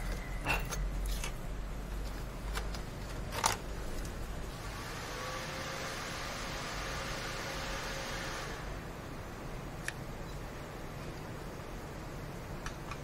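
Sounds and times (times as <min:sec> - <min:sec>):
computer fans whooshing: 0:00.0 - 0:13.0.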